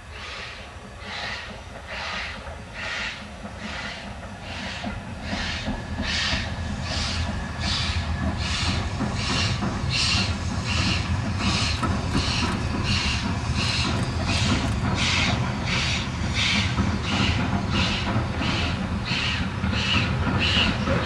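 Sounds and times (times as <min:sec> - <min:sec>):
steam locomotive chuffing: 0:00.0 - 0:21.0
train rumble: 0:00.0 - 0:21.0.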